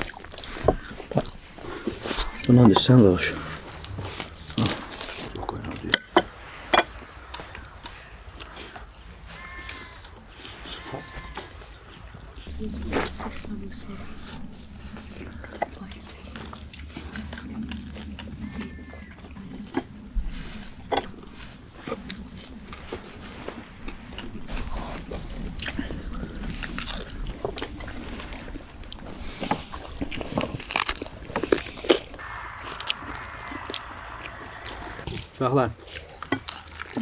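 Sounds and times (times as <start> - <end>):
people chewing crunchy food: 0.0 - 37.0.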